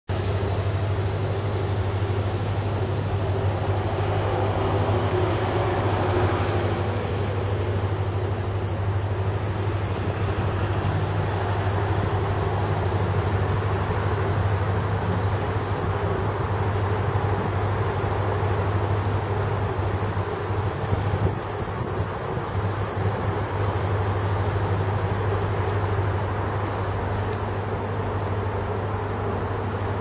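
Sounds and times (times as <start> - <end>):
road noise: 0.1 - 30.0
vehicle engine drone: 0.1 - 30.0.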